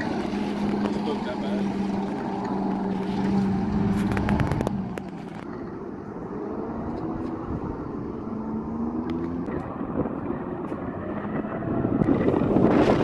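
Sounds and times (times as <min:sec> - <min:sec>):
tracked vehicle engine droning: 0:00.0 - 0:13.0.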